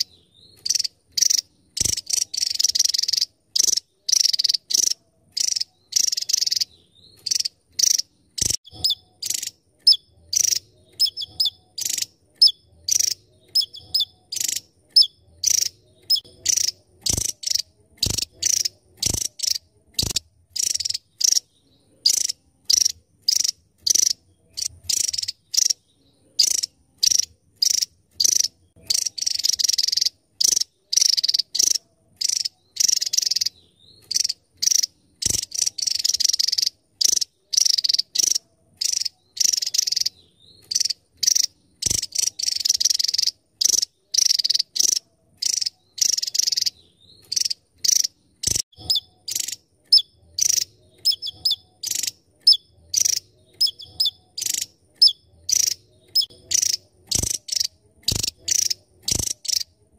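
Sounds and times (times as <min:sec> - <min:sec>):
bird singing high-pitched bursts: 0:00.0 - 0:59.7.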